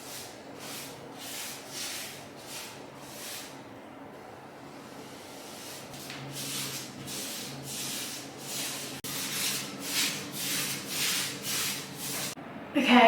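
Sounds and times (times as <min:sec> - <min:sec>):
paintbrush swishing strokes: 0:00.0 - 0:03.6, 0:04.8 - 0:12.4.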